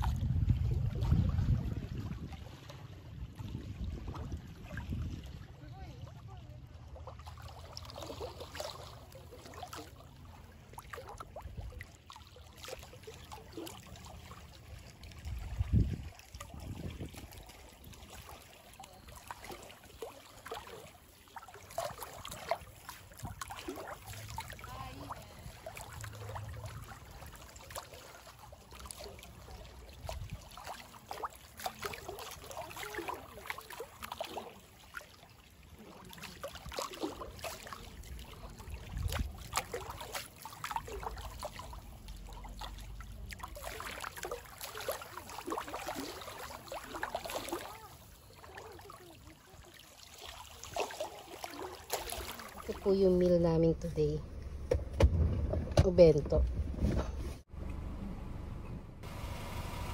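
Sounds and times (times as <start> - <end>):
water trickling and splashing: 0.0 - 54.8.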